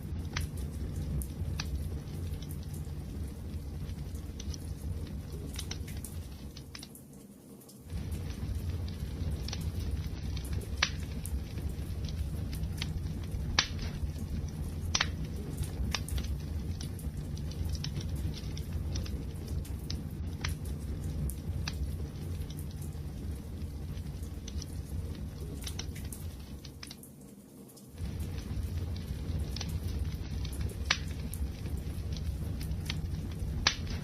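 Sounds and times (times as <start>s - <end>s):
low rumble of flames: 0.0s - 34.0s
wood fire crackling and popping: 0.0s - 34.0s.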